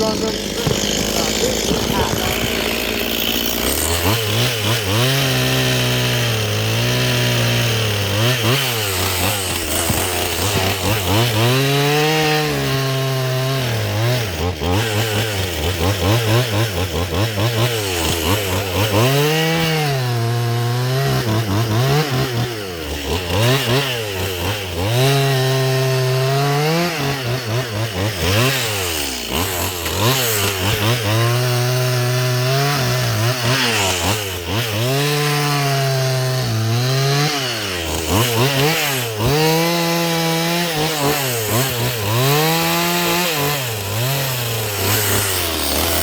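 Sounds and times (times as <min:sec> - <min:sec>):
chainsaw engine revving: 0:00.0 - 0:46.0.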